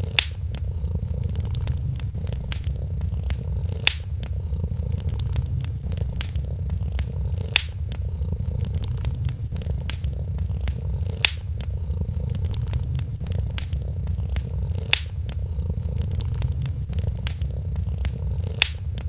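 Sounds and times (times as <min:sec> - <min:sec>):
cat purring: 0:00.0 - 0:19.0
loud pops from fire: 0:00.0 - 0:19.0
wood fire crackling: 0:00.0 - 0:19.0.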